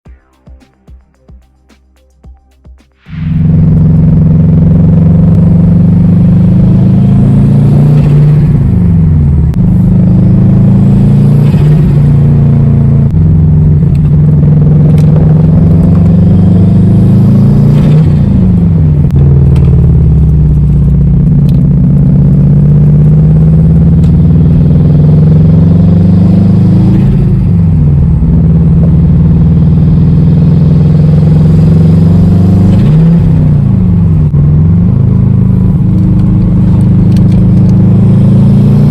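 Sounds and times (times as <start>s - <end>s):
turbocharged car engine accelerating: 3.1s - 38.9s.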